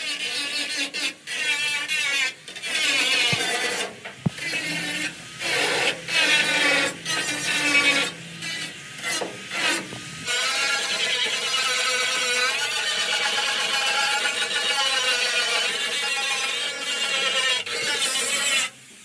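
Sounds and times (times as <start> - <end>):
workshop tool filing: 0.0 - 18.8.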